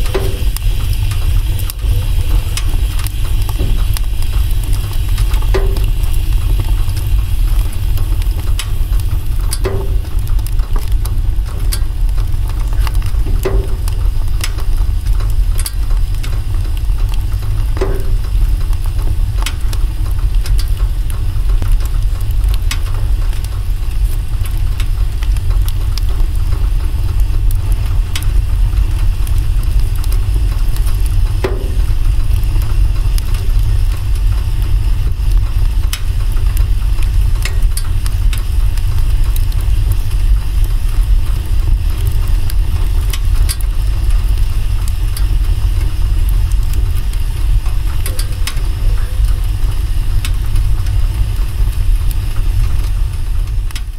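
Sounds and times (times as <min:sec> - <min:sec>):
fire rumbling: 0:00.0 - 0:53.9
wood crackling and popping: 0:00.0 - 0:53.9.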